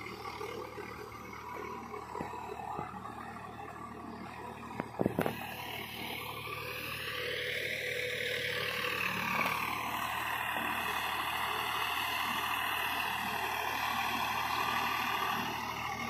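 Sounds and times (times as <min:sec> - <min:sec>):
motor drone with wavering whine: 0:00.0 - 0:16.0.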